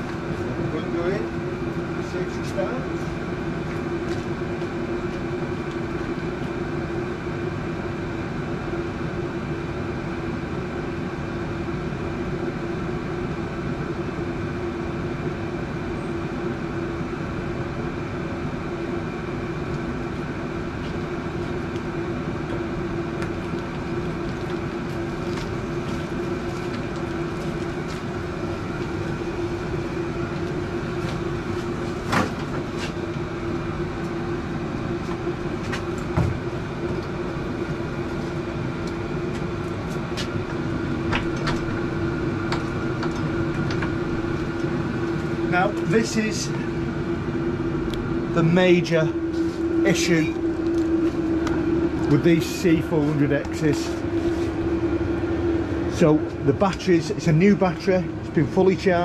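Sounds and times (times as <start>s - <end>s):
motor drone: 0.0s - 59.0s.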